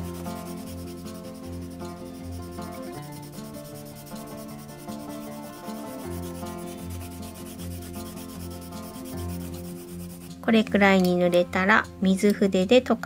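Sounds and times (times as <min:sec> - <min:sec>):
pencil scratching on paper: 0:00.0 - 0:10.6
soft background music: 0:00.0 - 0:13.0.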